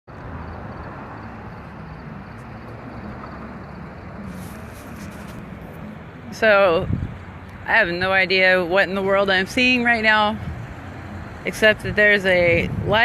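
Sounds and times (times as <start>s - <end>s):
traffic noise: 0.0s - 13.0s
low engine hum: 0.1s - 13.0s.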